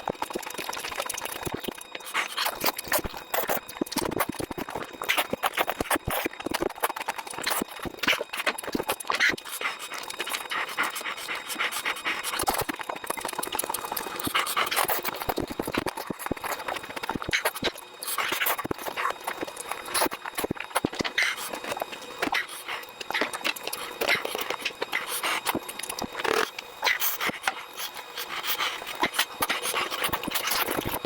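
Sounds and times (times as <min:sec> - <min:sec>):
wet chewing: 0:00.0 - 0:31.0
lip-smacking and sucking: 0:00.3 - 0:31.0.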